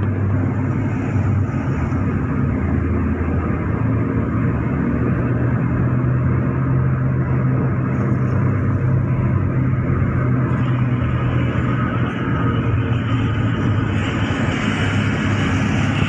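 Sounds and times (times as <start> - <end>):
engine hum inside vehicle: 0.0 - 16.0
tyre and road noise: 0.0 - 16.0.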